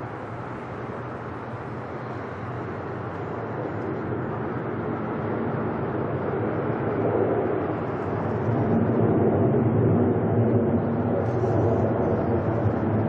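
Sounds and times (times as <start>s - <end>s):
jet airliner engine roar: 0.0s - 13.0s.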